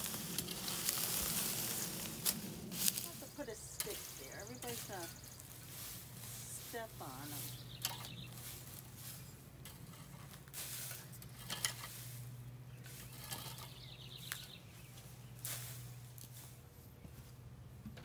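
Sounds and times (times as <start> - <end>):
rake scraping through soil: 0.0 - 16.6
steady low hum: 0.0 - 18.0.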